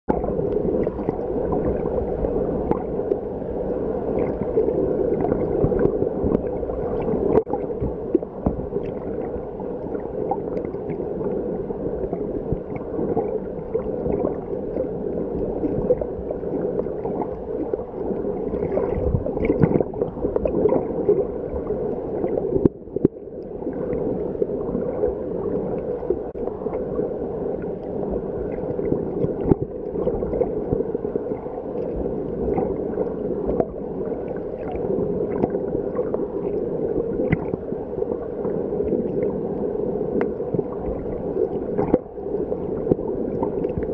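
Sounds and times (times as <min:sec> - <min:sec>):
underwater rushing and gurgling: 0:00.1 - 0:43.9.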